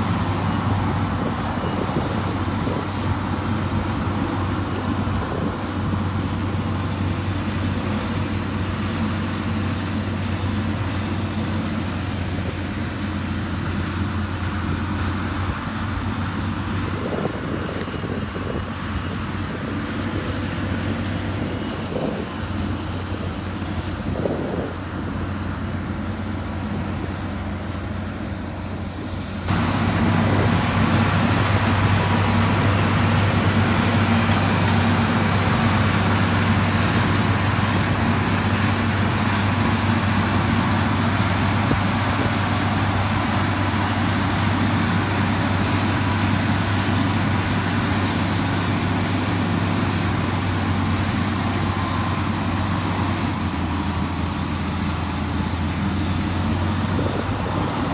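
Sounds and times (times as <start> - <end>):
diesel construction machinery running: 0.0 - 57.9.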